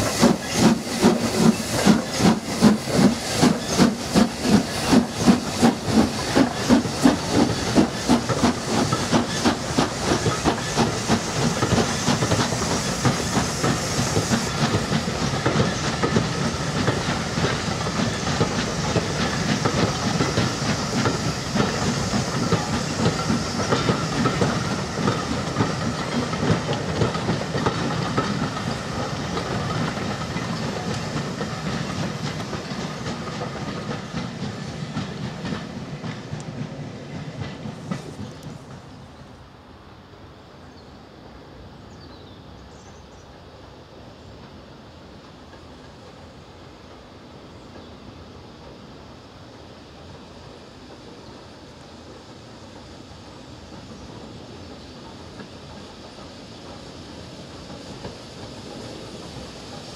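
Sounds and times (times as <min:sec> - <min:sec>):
train wheels clicking over rail joints: 0:00.0 - 0:39.0, 0:44.4 - 0:59.9
steam locomotive exhaust beats: 0:00.0 - 0:39.2, 0:43.6 - 0:59.9
hissing steam: 0:00.0 - 0:59.9.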